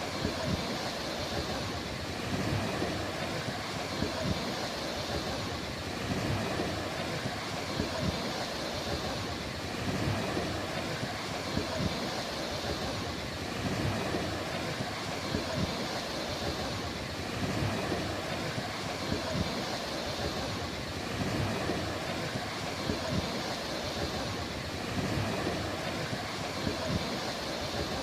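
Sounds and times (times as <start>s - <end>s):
sea waves washing on beach: 0.0s - 28.0s.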